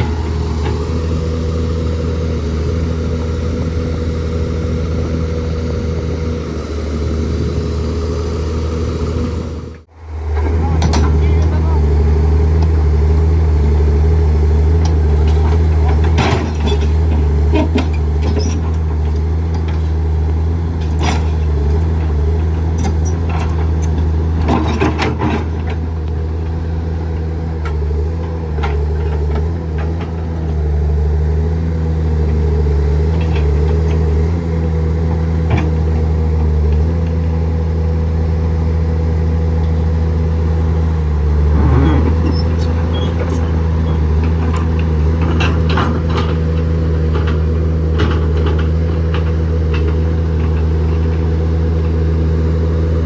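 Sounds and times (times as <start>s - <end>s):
heavy machinery diesel engine: 0.0s - 53.0s.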